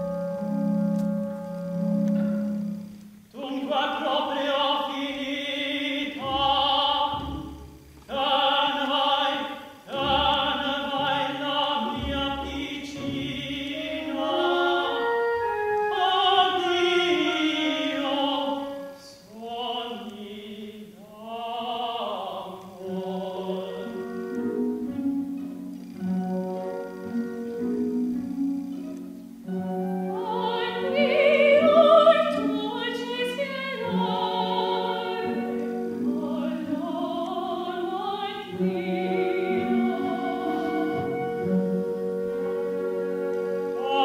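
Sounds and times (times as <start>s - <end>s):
orchestral accompaniment: 0.0s - 20.6s, 21.5s - 44.0s
man singing opera: 3.3s - 24.9s, 30.1s - 44.0s.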